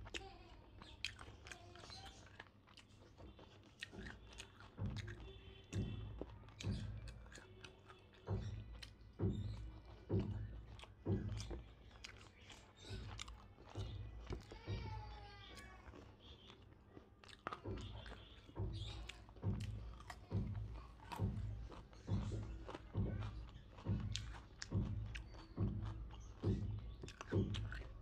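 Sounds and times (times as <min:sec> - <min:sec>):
person chewing: 0:00.0 - 0:28.0.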